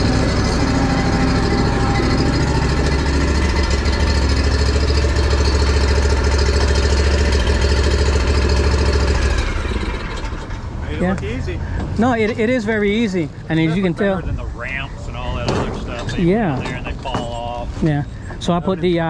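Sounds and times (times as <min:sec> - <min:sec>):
mower engine humming: 0:00.0 - 0:19.0.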